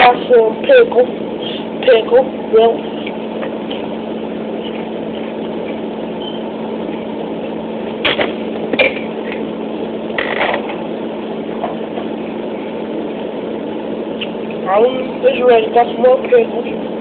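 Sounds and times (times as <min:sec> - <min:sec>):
refrigerator hum: 0:00.0 - 0:17.0.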